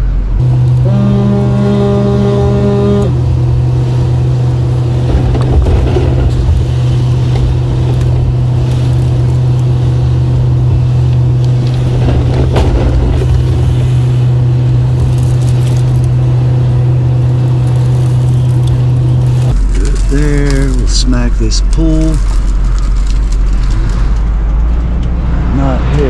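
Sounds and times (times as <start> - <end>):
truck engine droning: 0.0 - 26.0.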